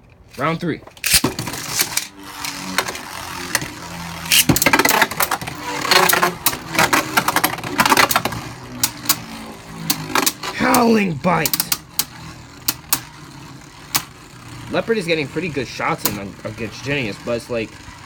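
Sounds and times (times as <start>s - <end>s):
spinning tops clacking and scraping: 0.1s - 18.0s
spinning tops whirring: 0.1s - 18.0s.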